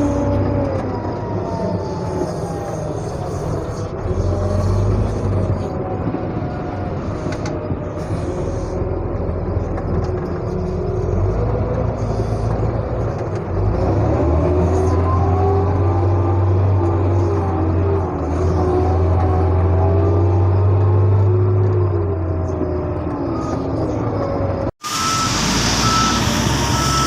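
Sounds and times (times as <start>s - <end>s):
heavy vehicle engine rumbling: 0.0s - 27.0s.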